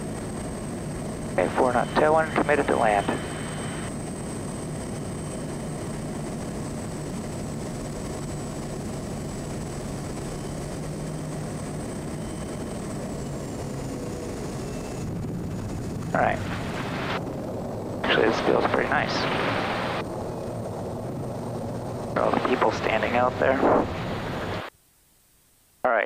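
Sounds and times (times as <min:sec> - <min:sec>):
turboprop engine and propeller: 0:00.0 - 0:24.7
thin high whine: 0:01.0 - 0:06.4, 0:07.9 - 0:24.7.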